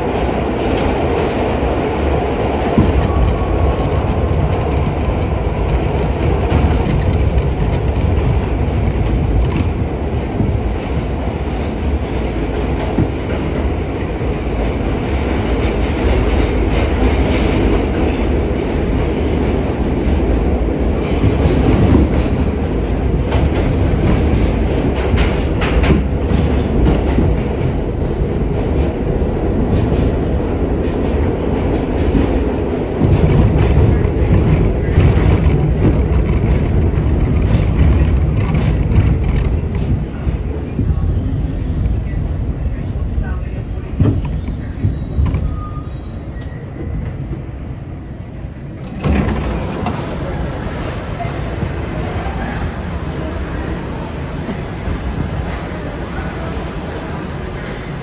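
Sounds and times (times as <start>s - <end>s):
rail clicks: 0.0s - 58.0s
subway car wheels rumbling: 0.0s - 58.0s.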